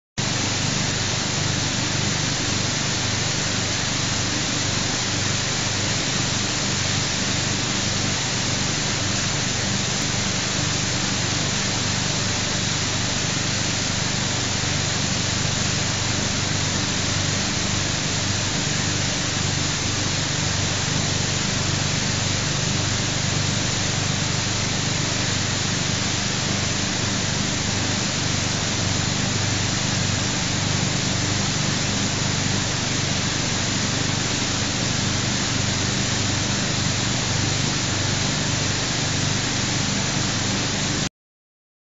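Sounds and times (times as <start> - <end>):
low machine hum: 0.2 - 40.9
rushing hiss of water and air: 0.2 - 41.1.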